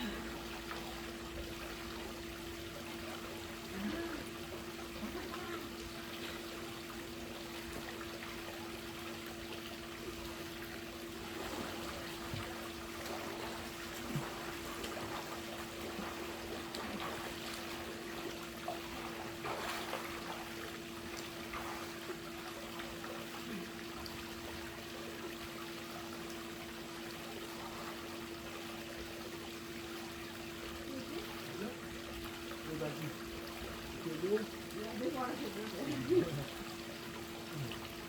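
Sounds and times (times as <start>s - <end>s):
pool water splashing: 0.0s - 38.0s
steady hum: 0.0s - 38.0s.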